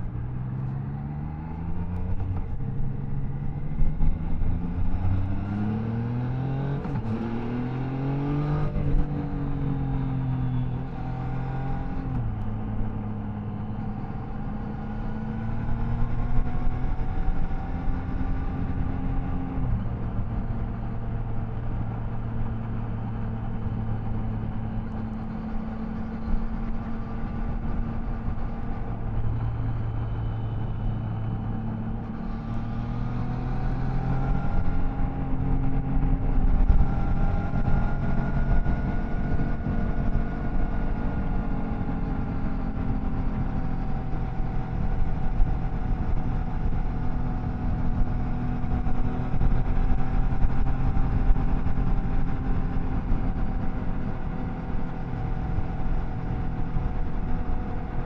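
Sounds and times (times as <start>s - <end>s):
motorcycle engine and exhaust: 0.0s - 58.0s
road noise: 0.0s - 58.0s.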